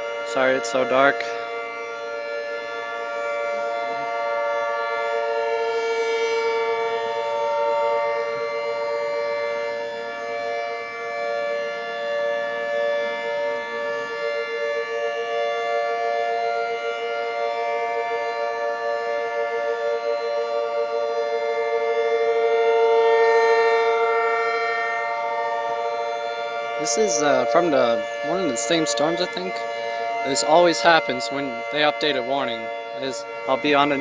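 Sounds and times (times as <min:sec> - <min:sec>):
outdoor warning sirens: 0:00.0 - 0:34.0.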